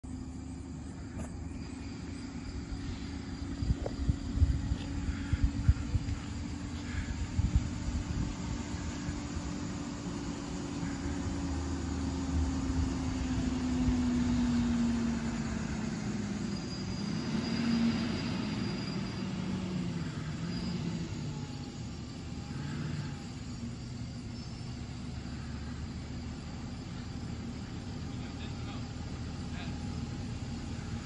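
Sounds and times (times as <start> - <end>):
garbage truck diesel engine: 0.0 - 31.0.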